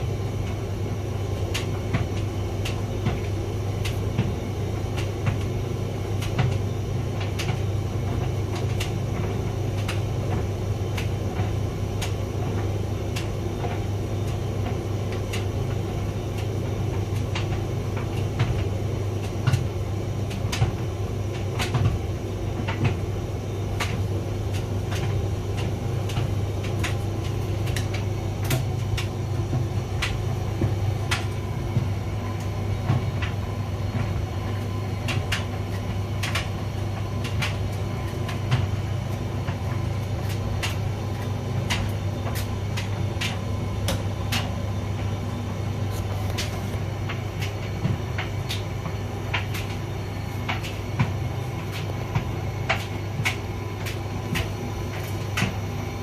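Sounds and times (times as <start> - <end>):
tumble dryer humming: 0.0 - 56.0
load tumbling clicks and taps: 1.4 - 23.0, 23.8 - 56.0.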